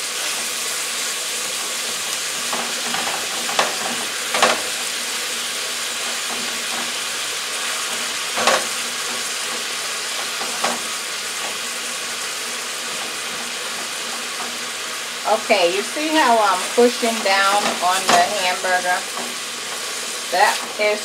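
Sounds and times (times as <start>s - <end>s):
meat sizzling in a skillet: 0.0s - 21.0s
spatula scraping and knocking pan: 1.5s - 14.8s, 15.5s - 21.0s.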